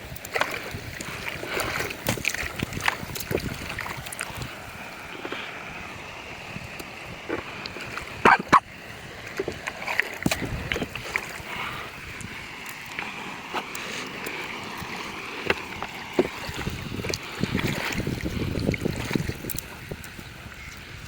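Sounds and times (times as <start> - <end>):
river water rushing: 0.0 - 20.7
small water splashes: 0.0 - 21.0.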